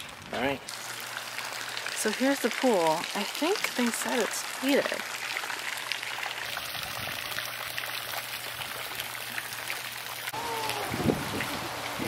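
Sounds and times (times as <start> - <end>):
fountain jets splashing: 0.0 - 12.0.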